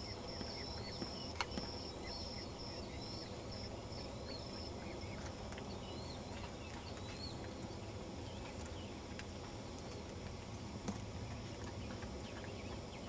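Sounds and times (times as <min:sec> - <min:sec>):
small birds chirping: 0:00.0 - 0:10.6, 0:11.2 - 0:13.0.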